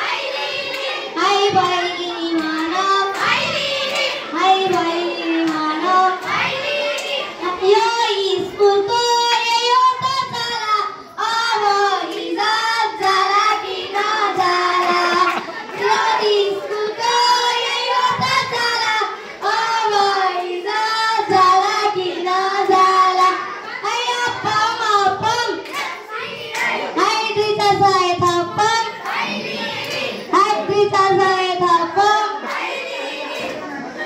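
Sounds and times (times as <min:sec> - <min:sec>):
girls singing into a microphone: 0:00.0 - 0:34.0.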